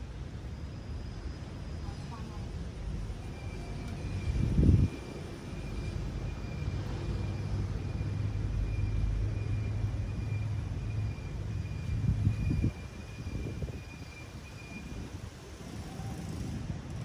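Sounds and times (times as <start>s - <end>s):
motor engine rumble: 0.0s - 16.9s
faint high-pitched tone: 0.4s - 15.2s.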